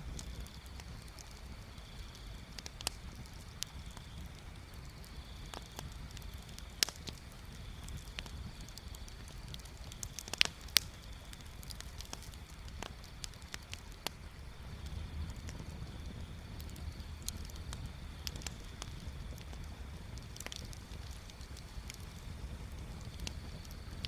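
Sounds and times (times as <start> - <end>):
bonfire crackling and popping: 0.0 - 24.0
low steady rumble: 0.0 - 24.0.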